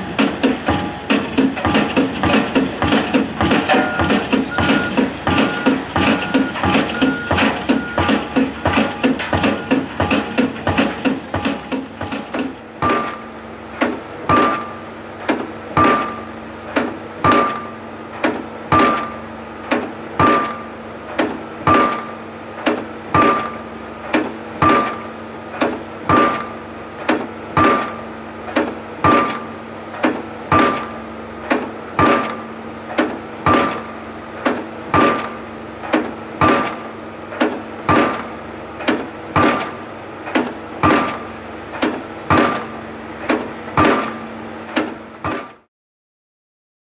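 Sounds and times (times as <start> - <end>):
hydraulic hammer striking pile: 0.0 - 45.7.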